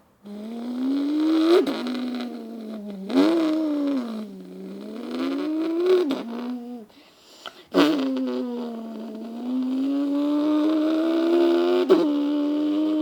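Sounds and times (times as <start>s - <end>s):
person imitating car engine: 0.2s - 7.0s, 7.7s - 13.0s.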